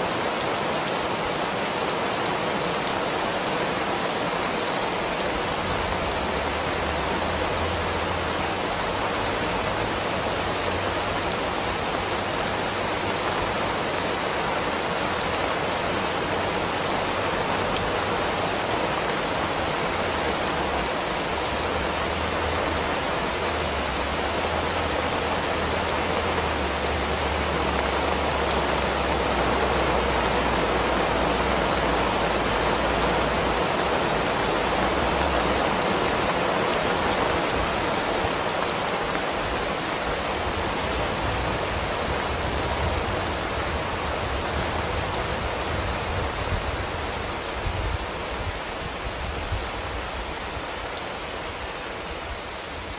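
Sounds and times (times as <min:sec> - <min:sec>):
rain hissing: 0:00.0 - 0:52.9.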